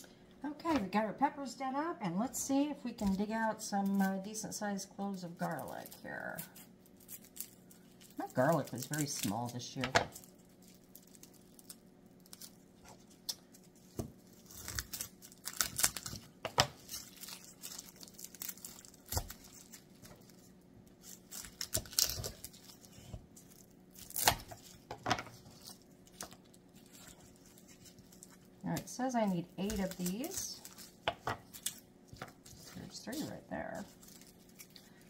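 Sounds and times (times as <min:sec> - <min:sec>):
garlic skins crackling: 0:02.1 - 0:35.0.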